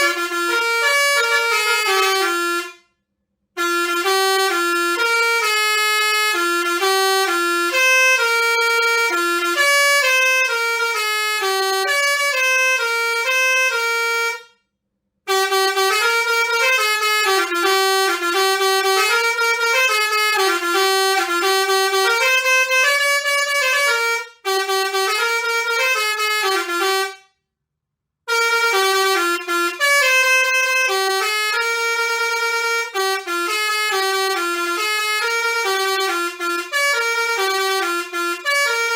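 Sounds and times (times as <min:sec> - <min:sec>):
musical air horn melody: 0:00.0 - 0:03.0, 0:03.6 - 0:14.6, 0:15.3 - 0:27.4, 0:28.3 - 0:38.9.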